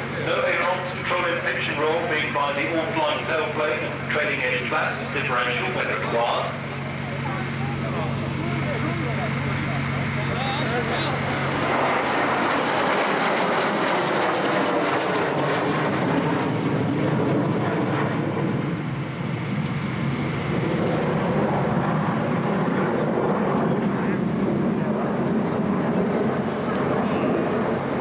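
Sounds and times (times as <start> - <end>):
jet engine noise: 0.0 - 28.0.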